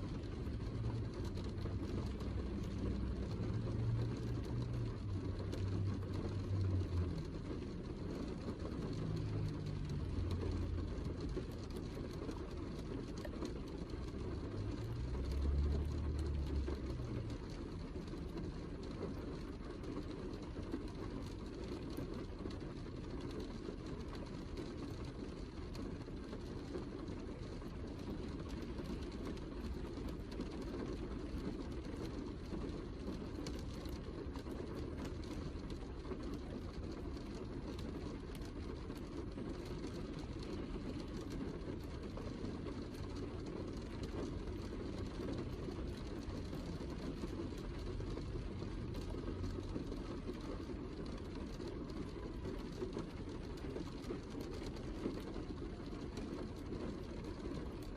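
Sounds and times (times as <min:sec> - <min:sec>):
heavy rain pattering: 0:00.0 - 0:57.9.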